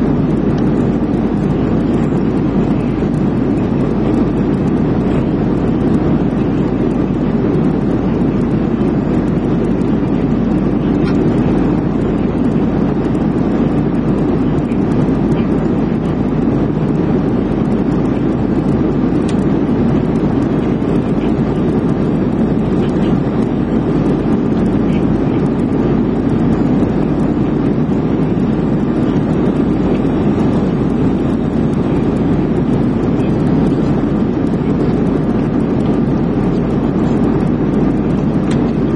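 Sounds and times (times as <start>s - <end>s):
airliner cabin roar in flight: 0.0s - 38.9s.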